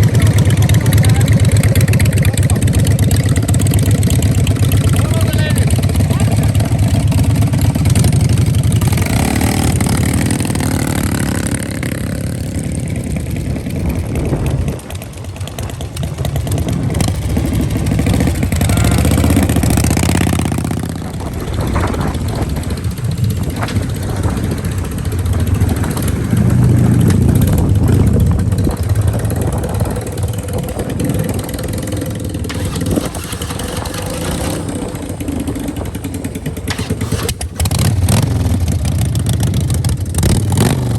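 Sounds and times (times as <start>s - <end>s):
vehicle engines revving: 0.0s - 40.9s.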